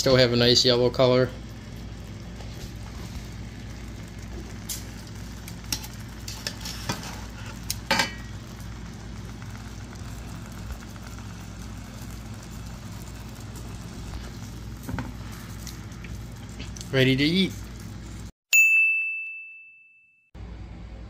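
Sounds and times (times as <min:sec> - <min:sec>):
mushrooms sizzling in a pan: 0:00.0 - 0:18.3.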